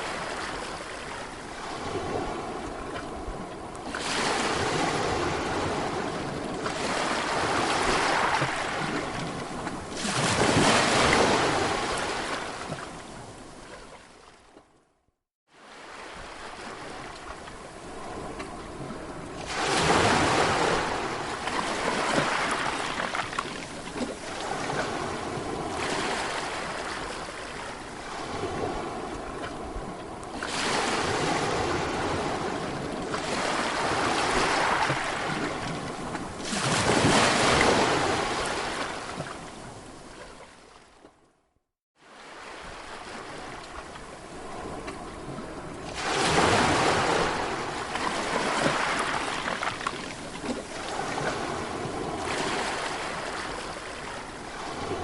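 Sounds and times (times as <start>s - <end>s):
sea waves breaking on shore: 0.0s - 14.7s, 15.5s - 41.2s, 42.0s - 55.0s.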